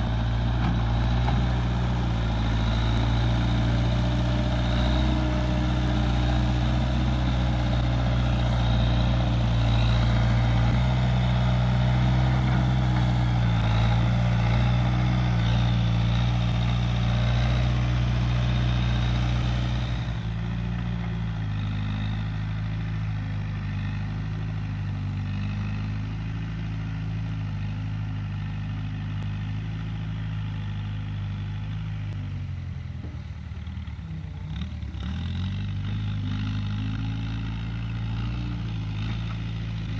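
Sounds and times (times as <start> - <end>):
backhoe loader engine running: 0.0 - 39.9.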